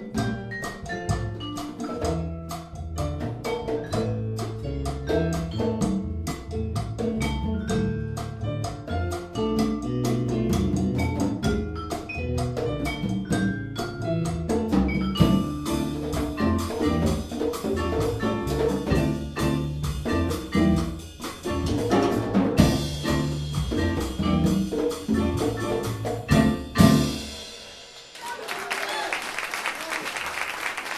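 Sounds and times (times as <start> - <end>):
latin jazz band playing: 0.0 - 28.1.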